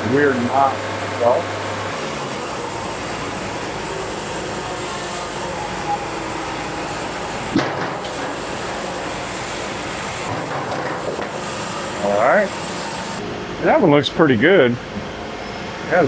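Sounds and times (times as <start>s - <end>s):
band sawmill cutting log: 0.0s - 13.2s.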